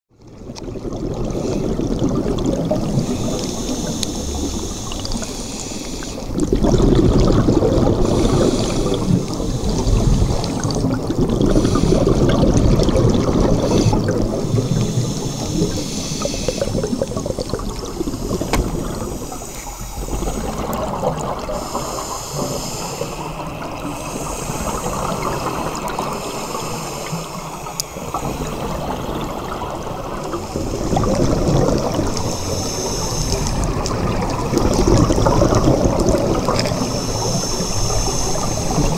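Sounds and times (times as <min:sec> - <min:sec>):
bubbling exhalations: 0:00.4 - 0:05.4, 0:06.0 - 0:38.9
hissing regulator inhalations: 0:02.9 - 0:06.4, 0:08.0 - 0:29.6, 0:30.2 - 0:38.9.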